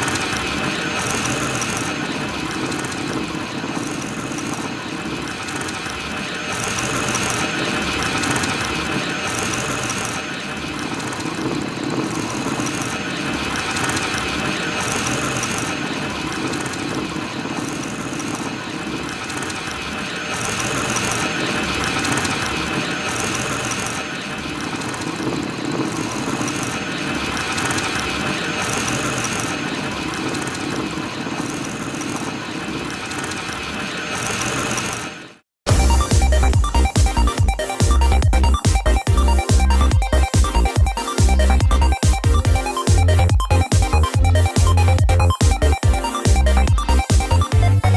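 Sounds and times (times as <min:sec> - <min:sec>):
droid rolling whirring and grinding: 0:00.0 - 0:47.9.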